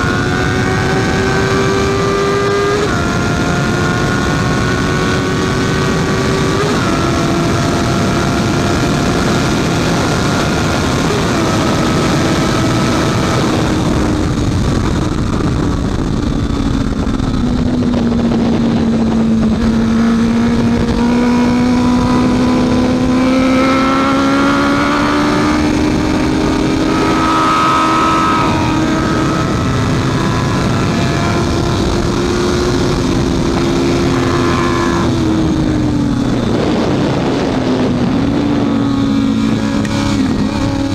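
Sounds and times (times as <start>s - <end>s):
motorcycle engine running hard: 0.0s - 40.9s
steady rushing noise: 0.0s - 40.9s.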